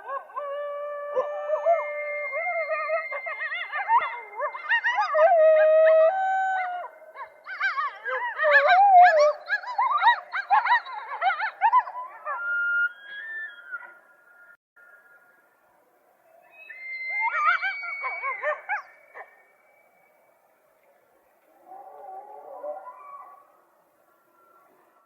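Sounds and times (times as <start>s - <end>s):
coyotes howling: 0.0s - 15.0s, 16.2s - 25.0s
coyotes yipping: 1.2s - 14.6s, 16.4s - 19.8s, 21.6s - 25.0s.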